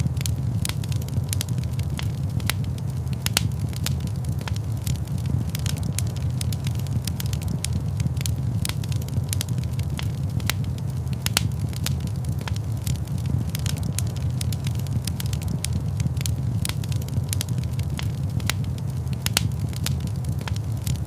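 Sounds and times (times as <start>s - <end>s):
low rumble: 0.0s - 21.0s
wood fire crackling: 0.0s - 21.0s.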